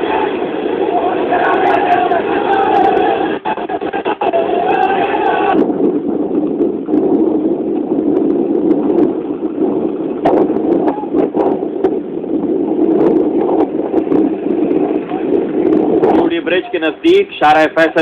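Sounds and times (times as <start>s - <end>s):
street commotion: 0.0s - 18.0s
wind on microphone: 0.0s - 18.0s.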